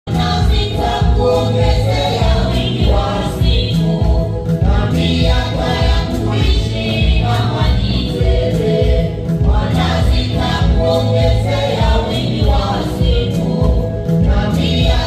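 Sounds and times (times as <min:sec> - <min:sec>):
gospel choir singing: 0:00.1 - 0:15.0.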